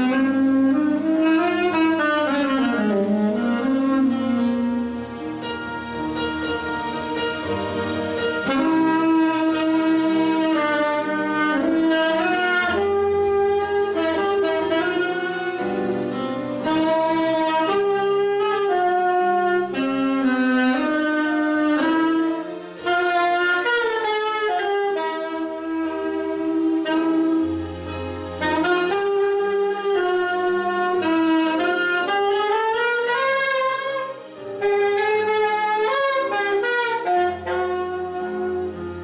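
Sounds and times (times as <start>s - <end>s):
alto saxophone melody: 0.0s - 39.0s
electronic keyboard chords: 0.0s - 39.0s.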